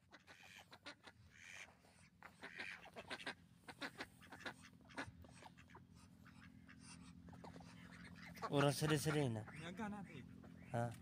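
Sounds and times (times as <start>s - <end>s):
ducks quacking softly: 0.0s - 11.0s.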